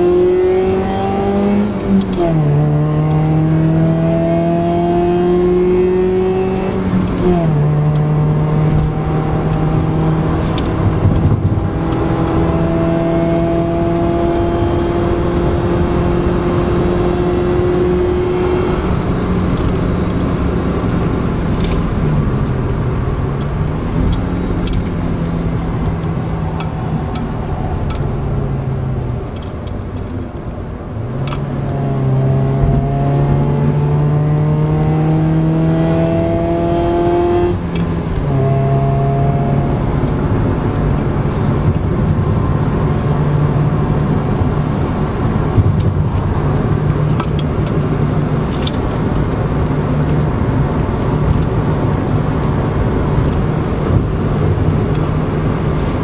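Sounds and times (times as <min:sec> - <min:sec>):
car engine hum: 0:00.0 - 0:56.0
road rumble: 0:00.0 - 0:56.0.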